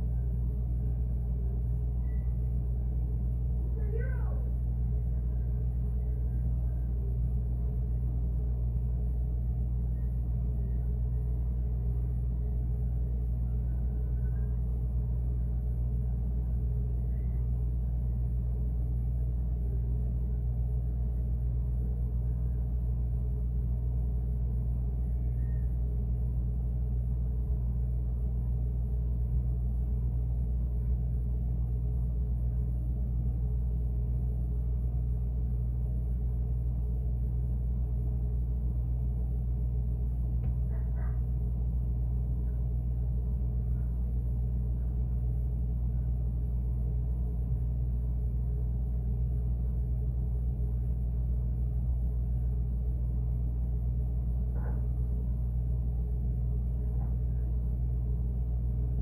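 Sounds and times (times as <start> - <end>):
refrigerator compressor humming: 0.0 - 59.0.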